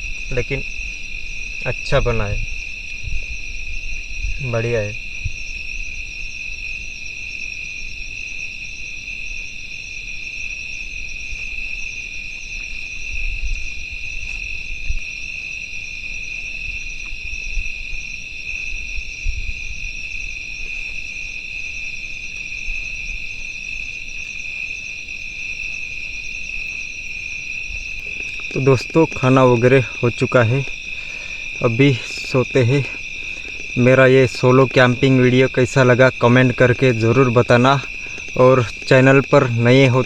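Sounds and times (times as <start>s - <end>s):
crickets and insects trilling: 0.0s - 40.0s.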